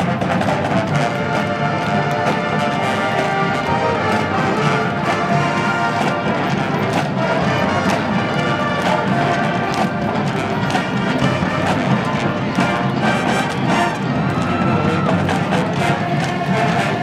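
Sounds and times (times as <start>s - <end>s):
marching band brass: 0.0s - 17.0s.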